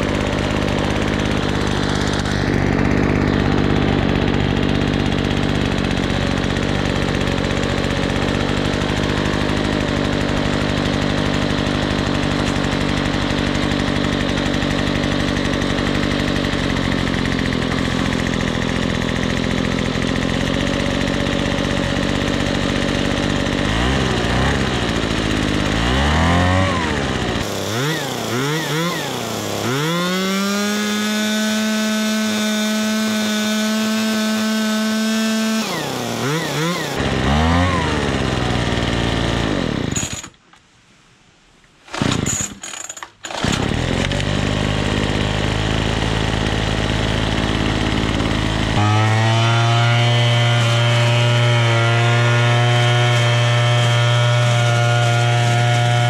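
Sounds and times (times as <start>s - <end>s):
leaf blower engine revving: 0.0s - 40.3s, 41.9s - 56.0s.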